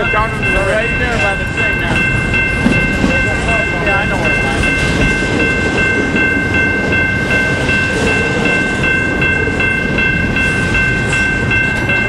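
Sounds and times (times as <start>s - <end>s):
high-pitched ringing tones: 0.0s - 12.0s
steel wheels rumbling on rail: 0.0s - 12.0s.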